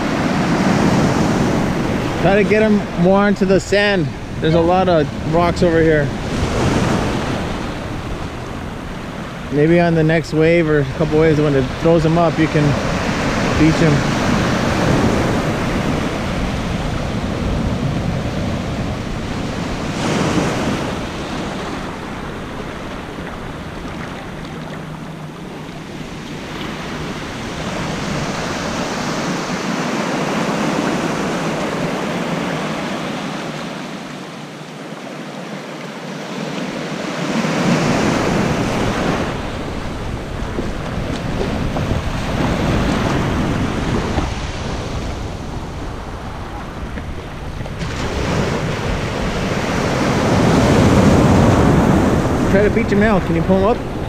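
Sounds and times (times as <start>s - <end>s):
wind rumble on microphone: 0.0s - 33.0s, 36.7s - 54.0s
small waves breaking: 0.0s - 54.0s.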